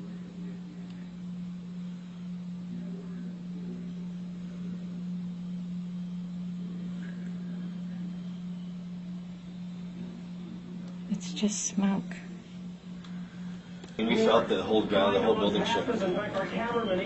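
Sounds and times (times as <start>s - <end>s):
faint background noise: 0.0s - 17.0s
steady low hum: 0.0s - 17.0s.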